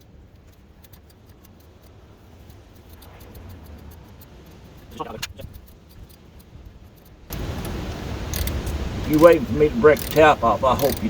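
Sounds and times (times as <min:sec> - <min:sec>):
ratchet turning thread tap: 0:00.0 - 0:11.0
small metallic clicks: 0:00.0 - 0:11.0.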